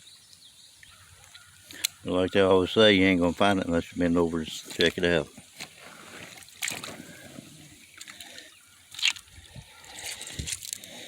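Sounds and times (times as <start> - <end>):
creek water trickling: 0.0 - 11.0
water splashes: 1.1 - 11.0.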